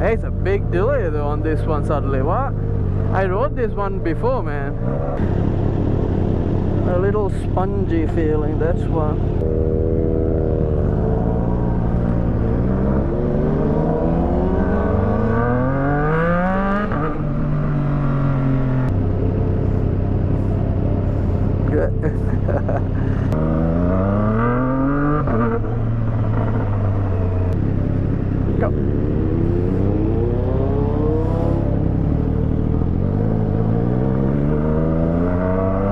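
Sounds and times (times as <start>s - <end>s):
motorcycle engine accelerating: 0.0s - 35.9s
wind and road noise: 0.0s - 35.9s.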